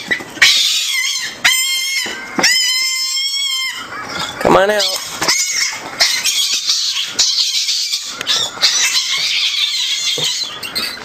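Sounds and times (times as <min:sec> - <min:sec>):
fox squealing chatter: 0:00.0 - 0:11.0.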